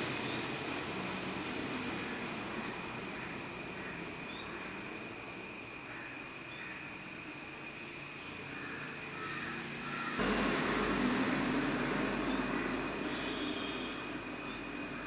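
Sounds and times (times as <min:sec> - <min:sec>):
background hiss: 0:00.0 - 0:15.0
high insect drone: 0:00.0 - 0:15.0.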